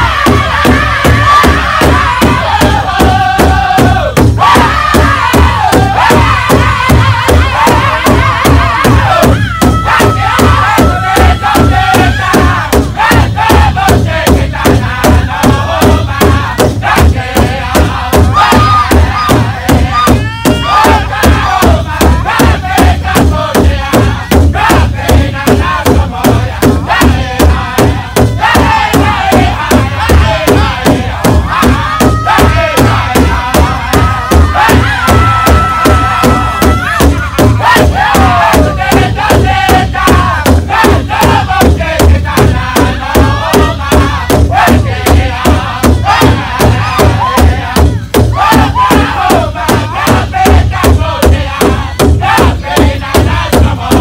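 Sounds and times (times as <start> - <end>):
large drum beats: 0.0 - 54.0
men singing in chorus: 0.0 - 54.0.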